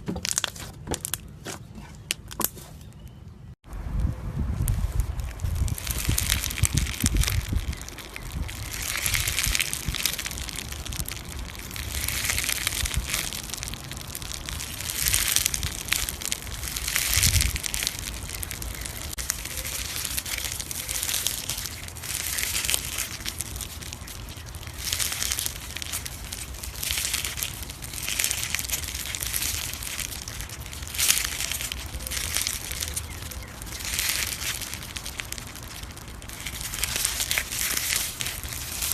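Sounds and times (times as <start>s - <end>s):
slime squeezed by hand crackling: 4.6s - 38.9s.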